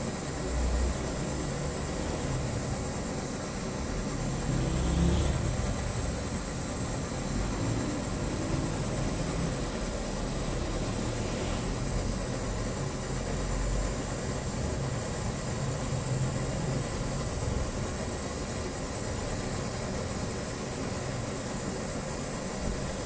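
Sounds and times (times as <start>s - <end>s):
pressure stove burner roaring: 0.0s - 23.0s
thin hiss: 0.0s - 23.0s.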